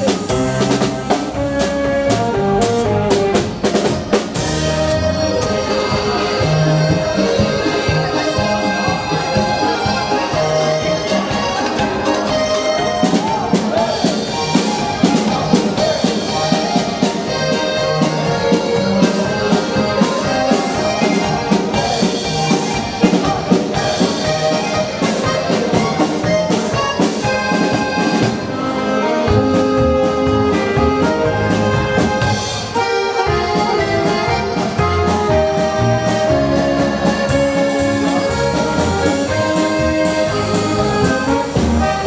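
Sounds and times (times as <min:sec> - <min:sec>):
accordion: 0:00.0 - 0:42.0
bass part: 0:00.0 - 0:42.0
drum kit: 0:00.0 - 0:42.0
saxophones: 0:00.0 - 0:42.0.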